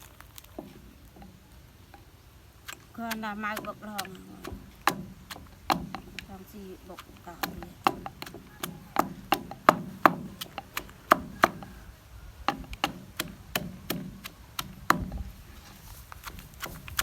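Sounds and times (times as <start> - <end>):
wooden chopping knocks: 2.7 - 17.0.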